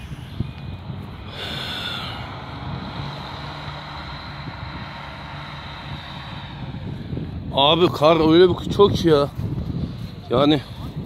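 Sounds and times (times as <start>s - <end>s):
off-road engine running: 0.0s - 11.0s.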